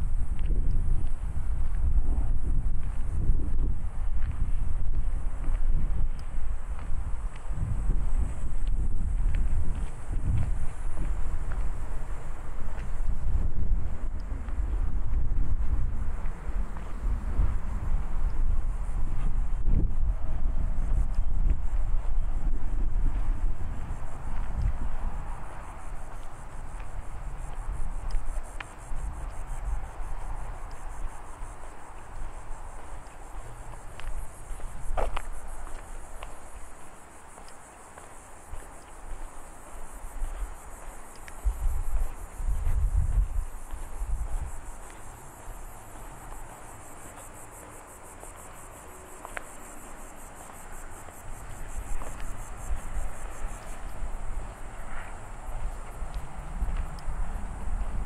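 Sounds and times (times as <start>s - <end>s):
cicadas buzzing: 0.0s - 58.0s
insects trilling: 0.0s - 58.0s
wind rumble on microphone: 0.0s - 58.0s.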